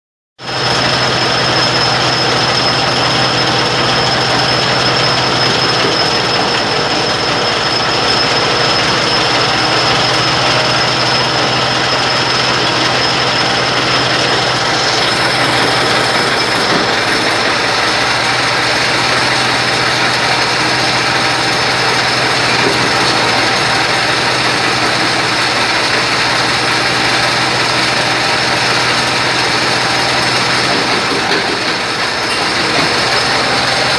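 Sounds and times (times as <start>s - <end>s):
stone crusher machine clattering: 0.5s - 33.9s.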